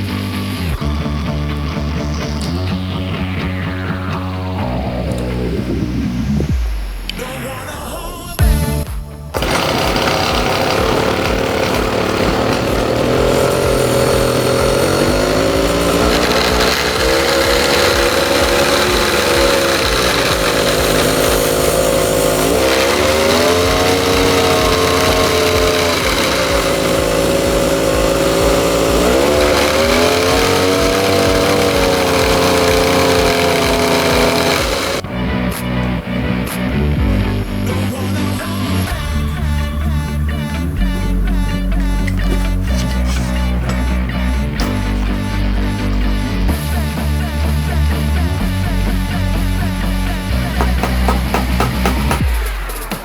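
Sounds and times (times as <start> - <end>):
brush cutter engine revving: 0.0 - 5.8, 8.4 - 53.0.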